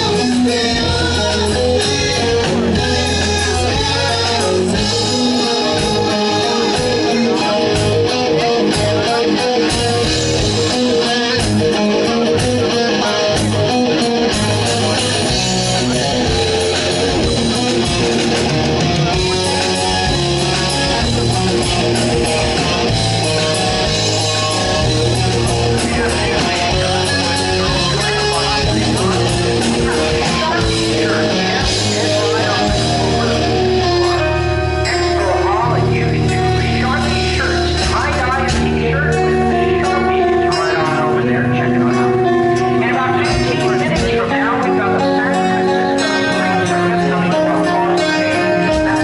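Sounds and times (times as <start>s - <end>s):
electric guitar: 0.0s - 49.0s
heavy metal band playing: 0.0s - 49.0s.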